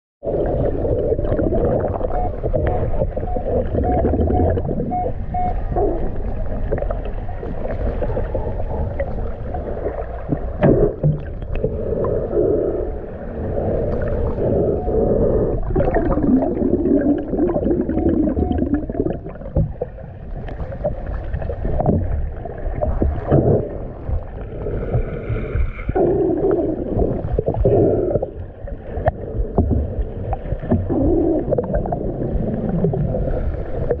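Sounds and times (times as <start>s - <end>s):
underwater rumble and gurgling: 0.2s - 34.0s.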